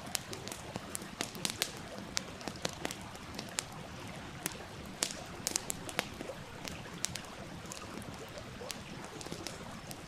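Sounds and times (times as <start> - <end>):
campfire crackling: 0.0 - 10.0
fire pops: 0.0 - 10.0.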